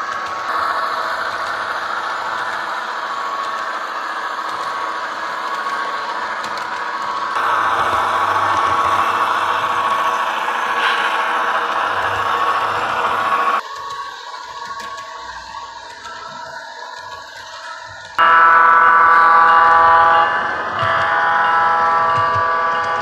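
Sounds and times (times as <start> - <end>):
model train rolling on track: 0.0 - 23.0.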